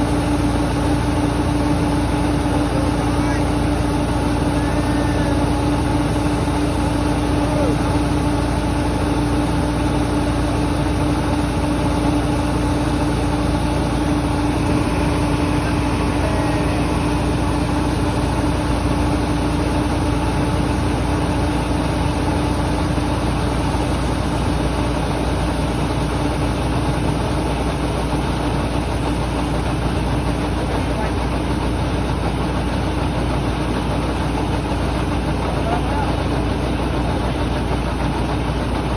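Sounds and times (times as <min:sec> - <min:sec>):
harvesting machine engine humming: 0:00.0 - 0:38.9.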